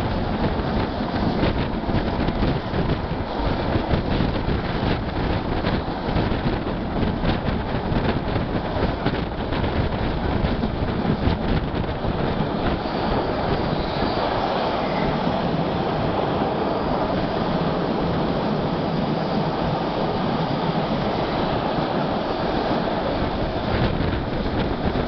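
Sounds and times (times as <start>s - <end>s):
train rushing along track: 0.0s - 25.0s
wind buffeting microphone: 0.0s - 25.0s.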